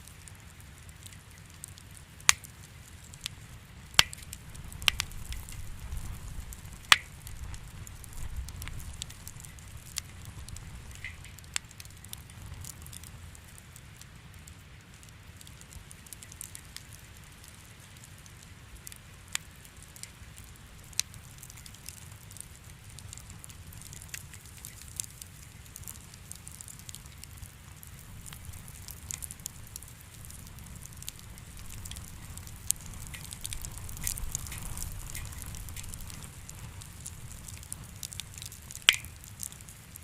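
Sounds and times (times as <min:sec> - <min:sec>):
fire crackling and popping: 0:00.0 - 0:40.0
low fire rumble: 0:00.0 - 0:40.0.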